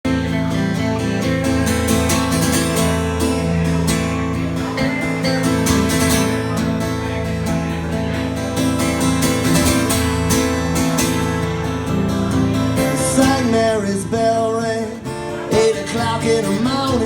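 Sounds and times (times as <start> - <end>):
strummed acoustic guitar: 0.0 - 17.0
live band playing: 0.1 - 17.0.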